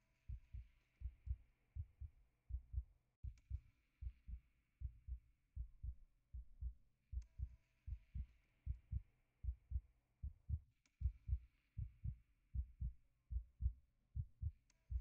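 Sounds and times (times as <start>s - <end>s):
slow steady heartbeat thumps: 0.3s - 15.0s.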